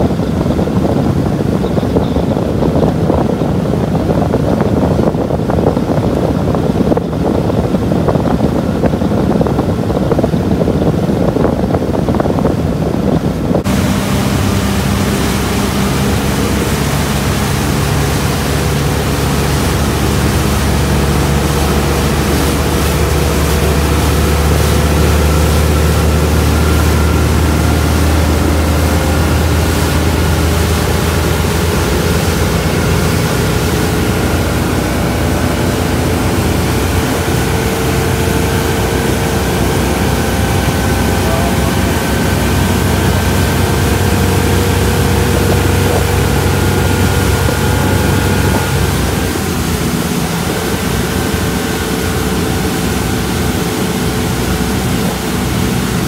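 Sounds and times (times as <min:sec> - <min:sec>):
motorboat engine drone: 0:00.0 - 0:56.0
rushing water: 0:00.0 - 0:56.0
wind: 0:00.0 - 0:56.0.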